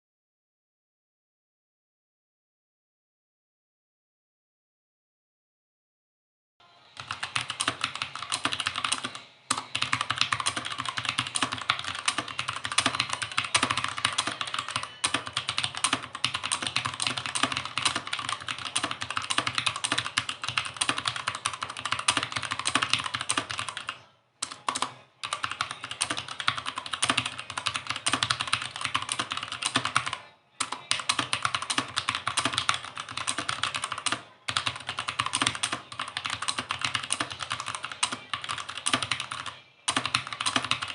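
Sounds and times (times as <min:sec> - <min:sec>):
mechanical keyboard typing: 0:07.0 - 0:40.9.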